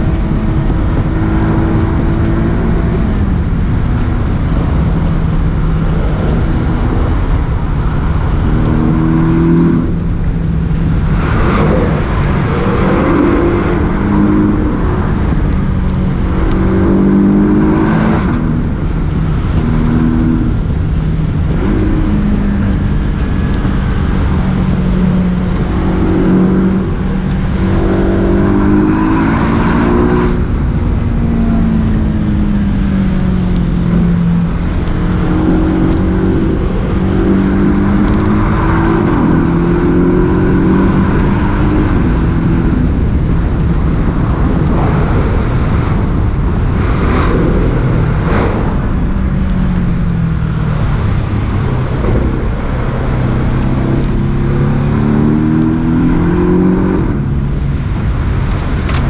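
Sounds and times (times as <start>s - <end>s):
car engine accelerating: 0.0s - 59.0s
steady low rumble: 0.0s - 59.0s.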